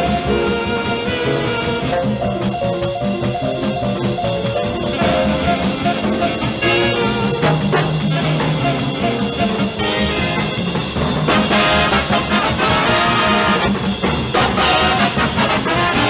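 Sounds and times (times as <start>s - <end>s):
brass and saxophones: 0.0s - 2.5s, 4.6s - 16.0s
big band swing jazz: 0.0s - 16.0s
drums: 0.0s - 16.0s.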